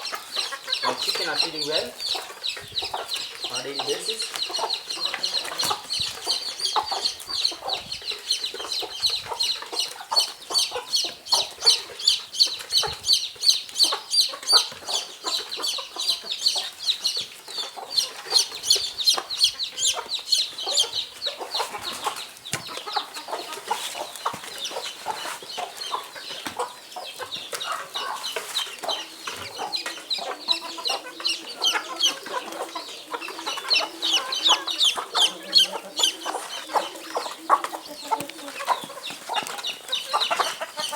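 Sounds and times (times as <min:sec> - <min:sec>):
chickens chirping: 0:00.0 - 0:40.9
chickens clucking: 0:00.0 - 0:40.9.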